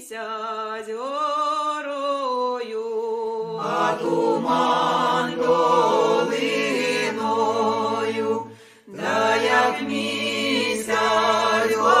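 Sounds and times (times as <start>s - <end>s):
voices singing unaccompanied: 0.0s - 12.0s.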